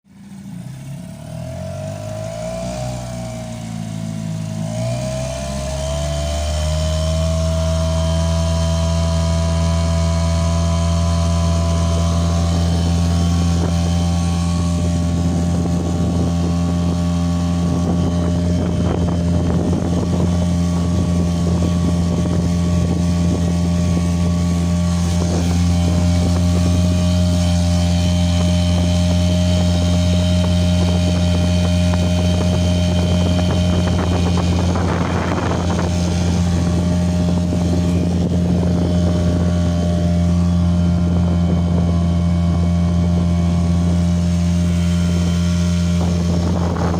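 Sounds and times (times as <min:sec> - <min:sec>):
outboard motor droning: 0:00.1 - 0:46.9
water rushing against hull: 0:00.1 - 0:46.9.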